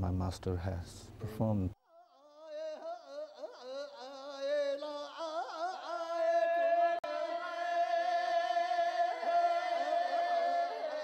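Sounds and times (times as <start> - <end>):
solo voice singing opera: 1.8 - 11.0.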